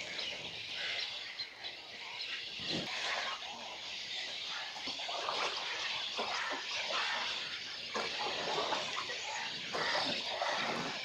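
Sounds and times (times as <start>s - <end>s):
water sounds: 0.0s - 11.0s
waterbirds chattering and squawking: 0.0s - 11.0s.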